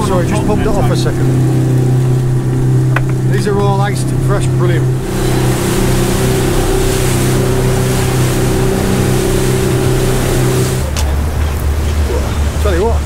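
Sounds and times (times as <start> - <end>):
boat engine running: 0.0 - 13.0
wake rushing: 0.0 - 13.0
wind: 0.0 - 13.0.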